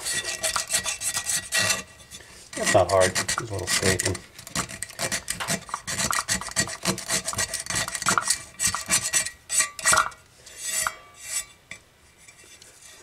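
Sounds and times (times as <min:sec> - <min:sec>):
knife blade scraping metal rim: 0:00.0 - 0:11.6.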